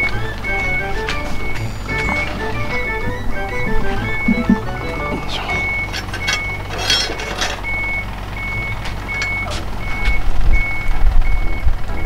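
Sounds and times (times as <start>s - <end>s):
reversing alarm beeping: 0.0s - 12.0s.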